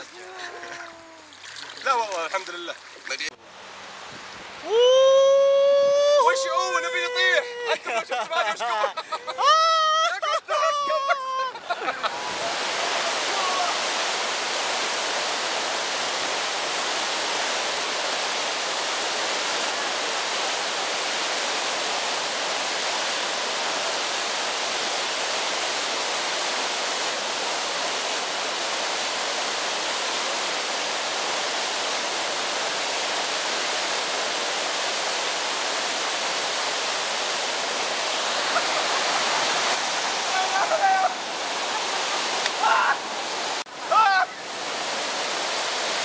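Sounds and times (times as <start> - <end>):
water rushing over weir: 0.0 - 46.0.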